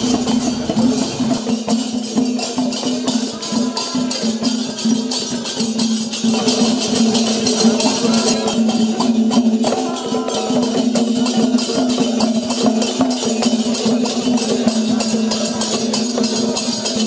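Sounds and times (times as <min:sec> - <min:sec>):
drums: 0:00.0 - 0:17.0
hand cymbals: 0:00.0 - 0:17.0.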